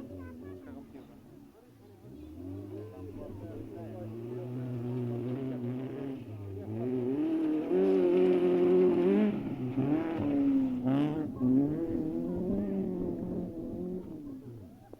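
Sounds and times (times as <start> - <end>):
racing car engine revving: 2.0 - 14.8.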